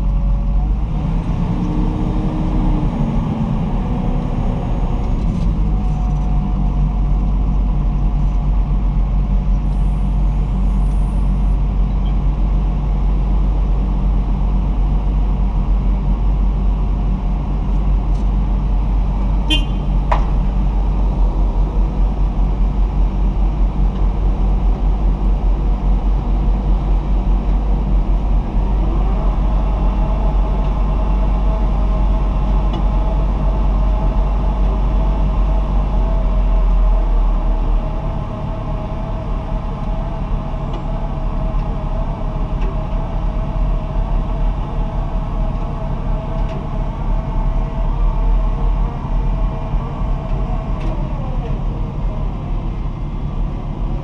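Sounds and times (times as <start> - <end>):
loader diesel engine running hard: 0.0 - 54.0.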